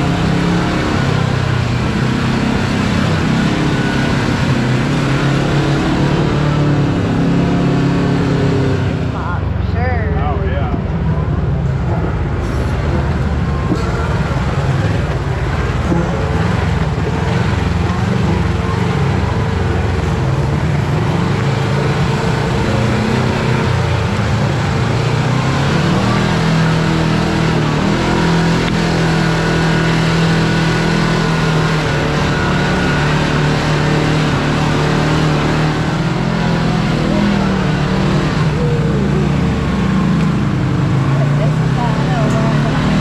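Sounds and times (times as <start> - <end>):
engine running while driving: 0.0 - 9.6, 10.2 - 43.0.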